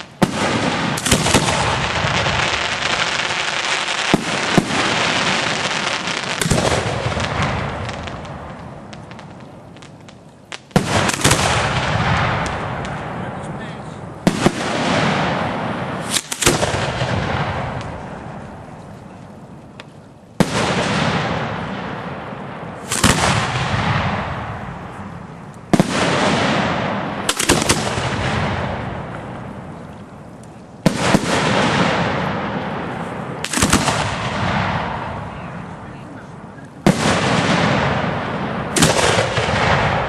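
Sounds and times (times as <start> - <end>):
firework shells bursting: 0.0 - 13.2, 14.2 - 18.8, 19.6 - 35.2, 36.5 - 40.0.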